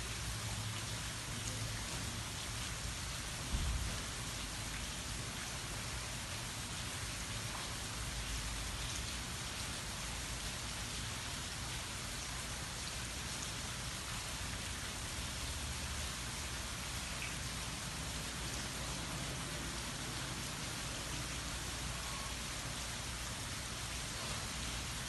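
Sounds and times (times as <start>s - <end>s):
light rain on trees and grass: 0.0s - 25.0s.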